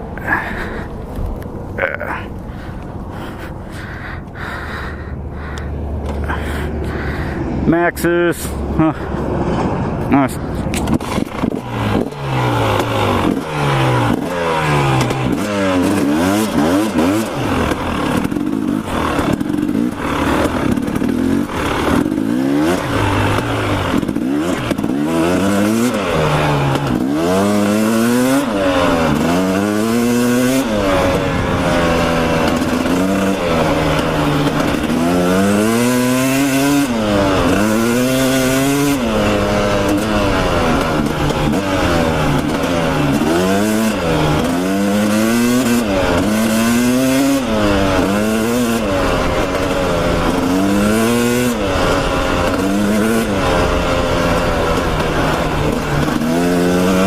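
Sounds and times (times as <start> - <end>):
dirt bike engine revving: 2.0 - 57.0.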